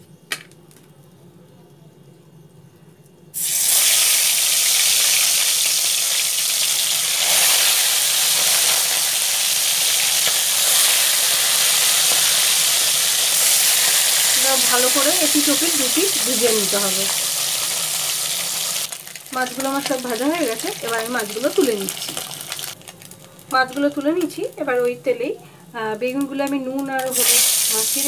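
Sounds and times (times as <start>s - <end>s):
fish sizzling in hot oil: 3.4s - 25.0s, 26.2s - 28.0s.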